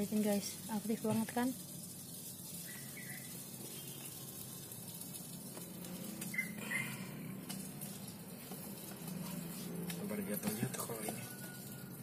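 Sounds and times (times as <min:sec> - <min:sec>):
mud clumps pattering down: 0:00.0 - 0:12.0
wet mud crumbled over sieve: 0:00.0 - 0:12.0.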